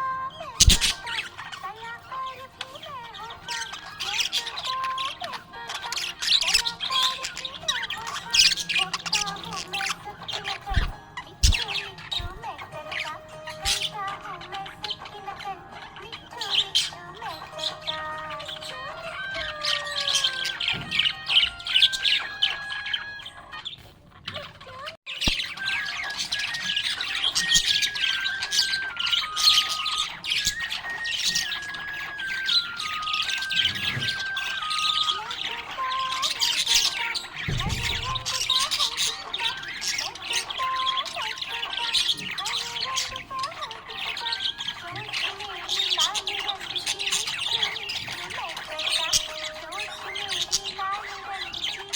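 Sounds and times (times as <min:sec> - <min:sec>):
simple background music: 0:00.0 - 0:24.2, 0:25.1 - 0:51.9
budgerigars chirping and warbling: 0:00.0 - 0:51.9.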